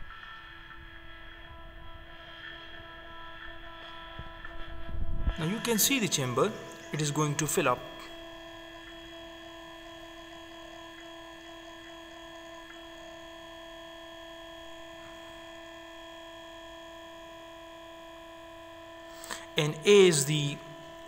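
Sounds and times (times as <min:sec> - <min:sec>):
electric pump humming: 0:02.4 - 0:21.0.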